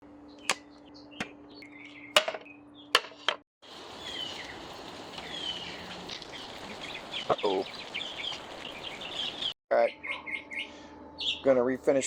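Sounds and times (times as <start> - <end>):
bird chirps: 0.3 - 2.9, 3.9 - 11.6.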